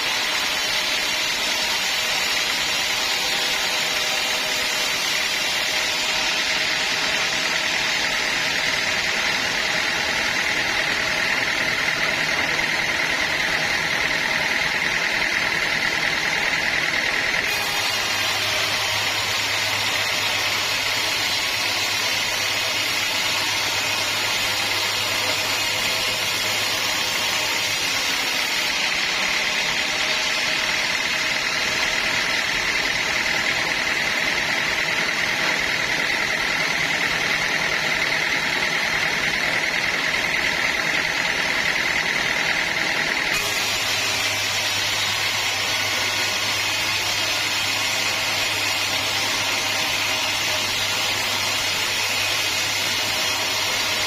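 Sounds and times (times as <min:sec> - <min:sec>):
high steady whine: 0:00.0 - 0:54.0
sawmill machinery running: 0:00.0 - 0:54.0.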